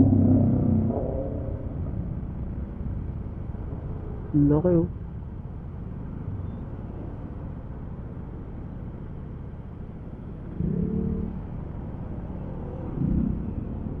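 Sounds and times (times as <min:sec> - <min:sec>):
motorcycle engine rumble: 0:00.0 - 0:14.0
road noise: 0:00.0 - 0:14.0.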